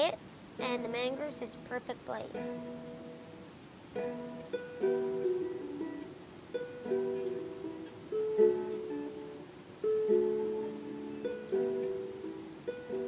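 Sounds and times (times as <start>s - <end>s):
harp plucked chords and notes: 0.6s - 13.0s.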